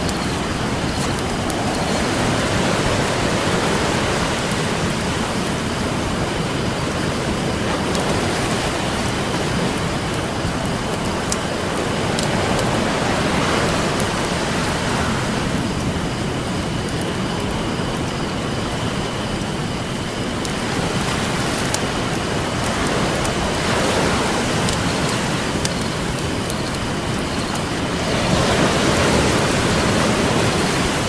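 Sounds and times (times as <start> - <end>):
campfire crackling: 0.0 - 31.0
ocean surf washing ashore: 0.0 - 31.0.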